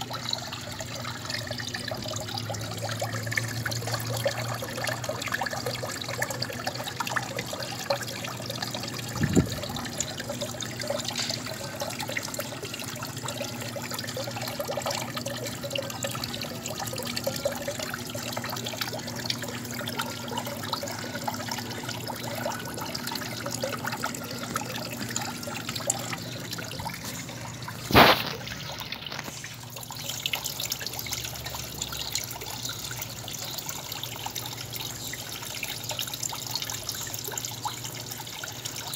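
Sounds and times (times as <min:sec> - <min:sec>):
faint steady hum: 0:00.0 - 0:38.9
water trickling and splashing: 0:00.0 - 0:38.9.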